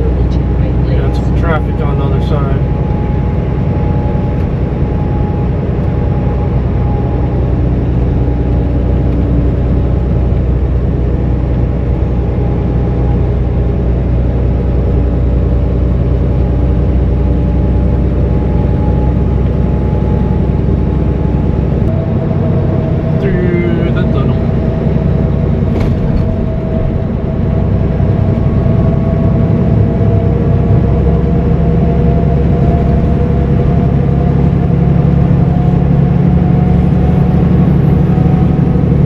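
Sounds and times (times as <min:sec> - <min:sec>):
diesel truck engine drone: 0:00.0 - 0:39.0
road noise: 0:00.0 - 0:39.0.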